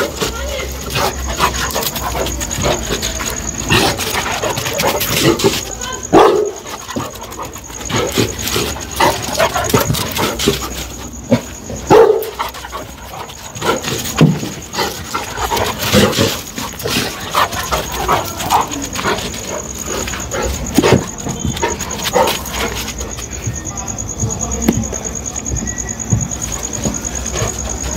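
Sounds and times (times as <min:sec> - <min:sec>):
dogs barking: 0:00.0 - 0:23.3.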